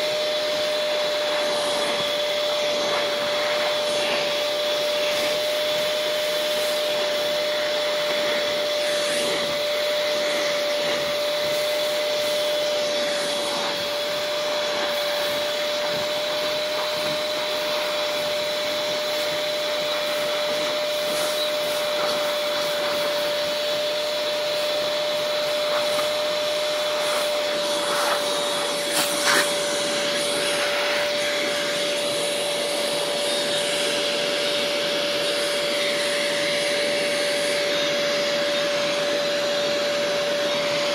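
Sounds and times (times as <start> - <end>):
shop vac whining: 0.0 - 40.9.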